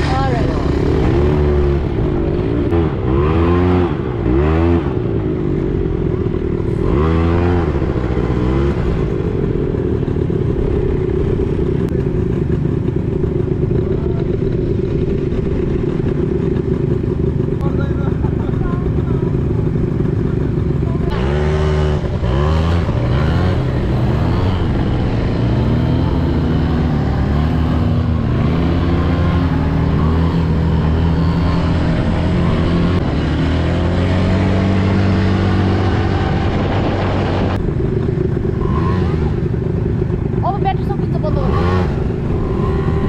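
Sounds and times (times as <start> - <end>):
quad bike engine revving: 0.0 - 43.0.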